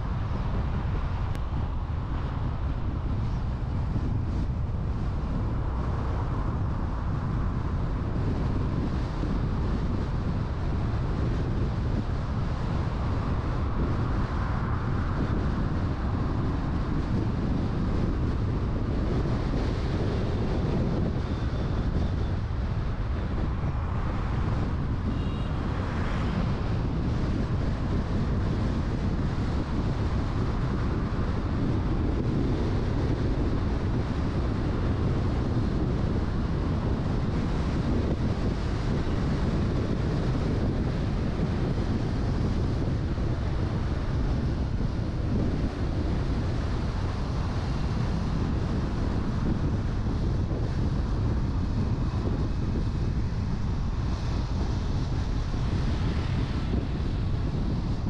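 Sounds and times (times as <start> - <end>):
street traffic: 0.0 - 58.0
wind rumble on microphone: 0.0 - 58.0.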